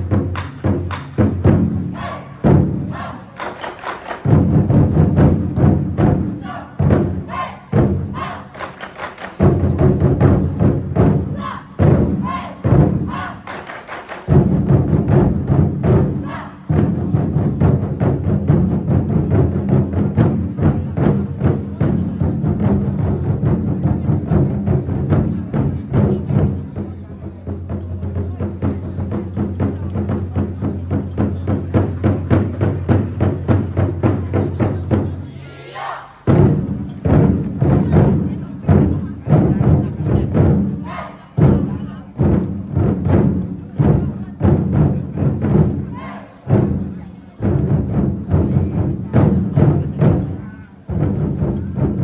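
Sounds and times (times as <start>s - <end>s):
large drums beaten rapidly: 0.0s - 35.2s, 36.2s - 52.0s.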